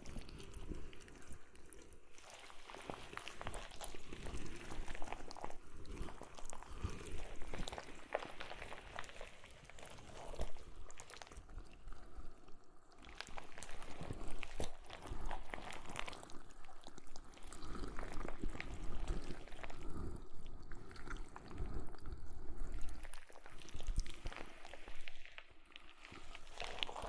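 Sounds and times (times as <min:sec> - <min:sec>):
wet squelching and sticky crackling: 0:00.0 - 0:27.0.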